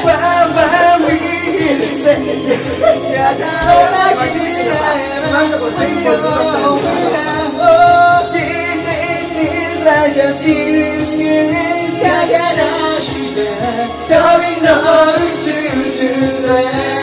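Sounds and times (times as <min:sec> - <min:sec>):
man singing into a microphone: 0:00.0 - 0:17.0
pop backing track: 0:00.0 - 0:17.0.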